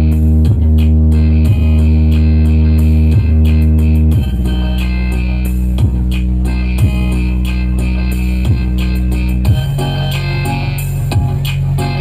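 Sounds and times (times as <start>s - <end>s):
heavy bass notes: 0.0s - 12.0s
loud music through loudspeakers: 0.0s - 12.0s.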